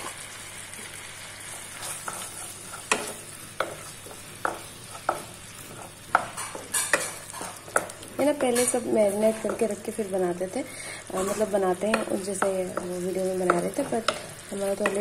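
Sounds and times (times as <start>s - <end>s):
food sizzling in a pan: 0.0s - 15.0s
spatula scraping and knocking pan: 1.7s - 9.8s, 11.1s - 15.0s.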